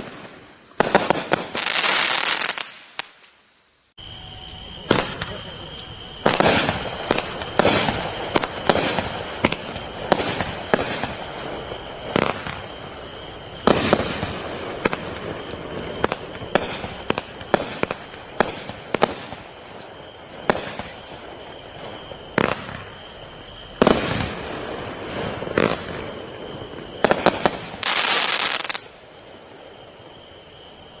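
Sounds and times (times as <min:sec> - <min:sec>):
fireworks bangs and crackle: 0:00.0 - 0:03.5, 0:04.1 - 0:31.0.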